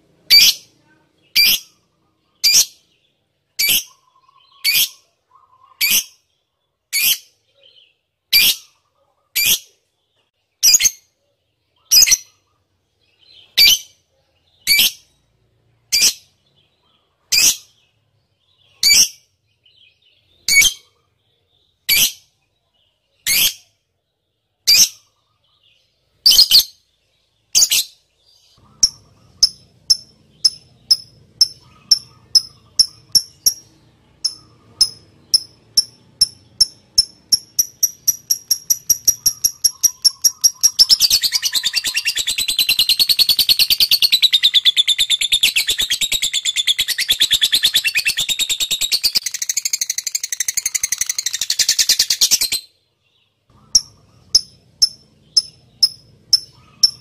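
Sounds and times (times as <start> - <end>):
lovebird chirping: 0.0 - 57.0.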